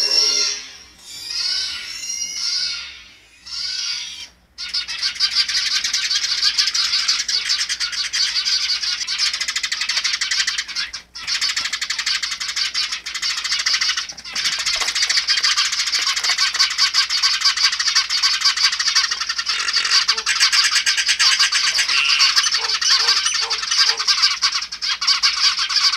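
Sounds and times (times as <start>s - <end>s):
sparrows chirping: 0.0s - 25.9s.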